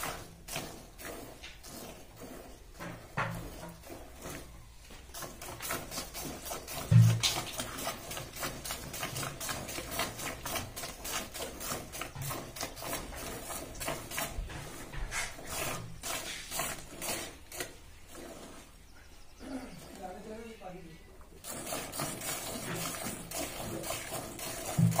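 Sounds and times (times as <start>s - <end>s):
milk squirting into plastic bucket: 0.0s - 18.8s, 21.2s - 25.0s.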